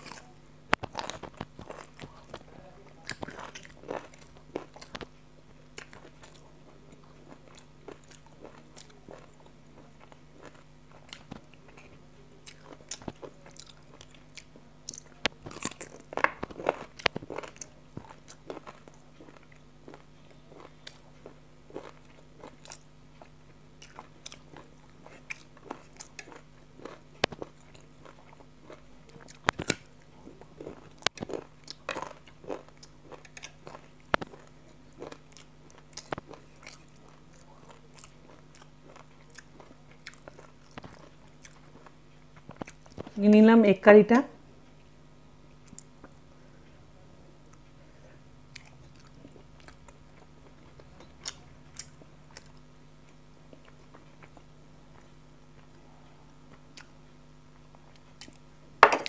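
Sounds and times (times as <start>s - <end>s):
person chewing food: 0.0s - 43.2s, 45.6s - 46.3s, 47.5s - 59.0s.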